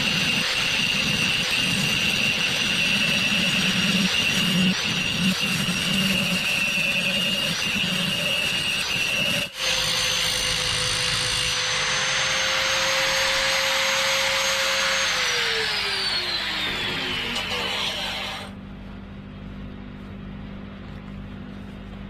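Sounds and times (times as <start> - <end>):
angle grinder grinding steel rod: 0.0 - 18.6
electric drill motor: 0.0 - 18.6.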